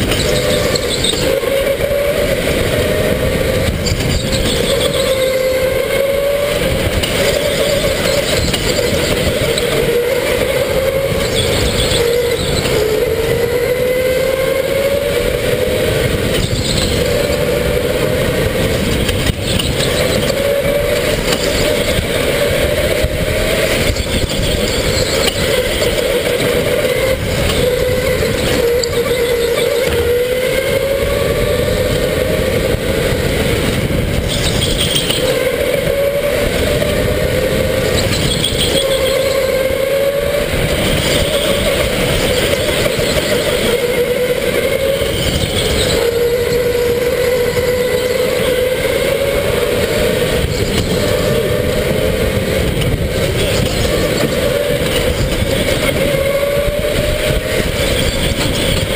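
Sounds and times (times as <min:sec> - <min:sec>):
electric go-kart motor whining: 0:00.0 - 0:58.9
steady rushing noise: 0:00.0 - 0:58.9.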